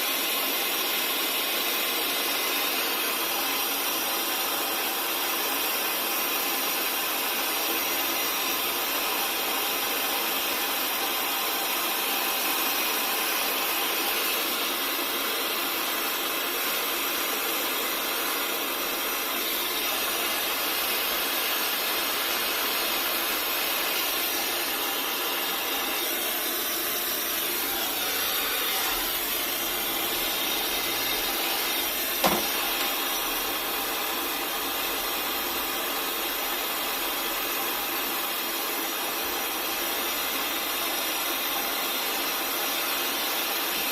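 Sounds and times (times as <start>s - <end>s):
gas torch flame hissing: 0.0s - 43.9s.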